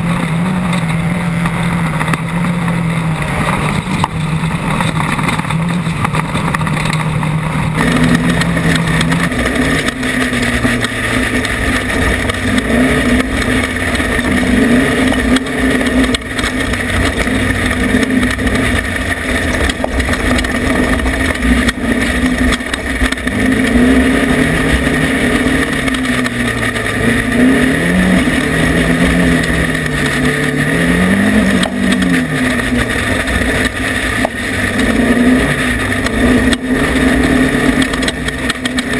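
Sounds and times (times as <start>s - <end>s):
race vehicle engine running hard: 0.0s - 38.9s
wind and terrain rumble: 0.0s - 38.9s.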